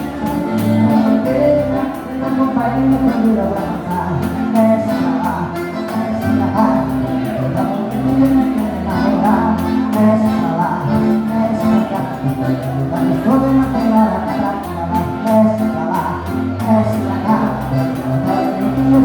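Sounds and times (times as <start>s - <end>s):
accordion chords: 0.0s - 19.0s
person singing: 0.0s - 19.0s
steady beat: 0.0s - 19.0s.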